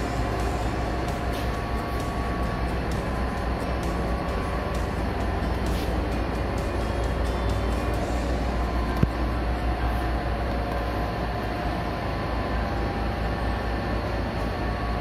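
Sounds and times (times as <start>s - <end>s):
fan hum and rumble: 0.0s - 15.0s.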